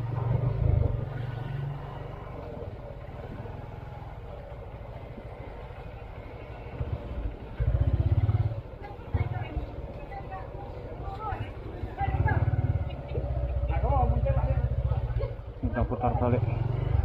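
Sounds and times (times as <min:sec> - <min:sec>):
motorcycle engine running: 0:00.0 - 0:09.9, 0:10.6 - 0:17.0.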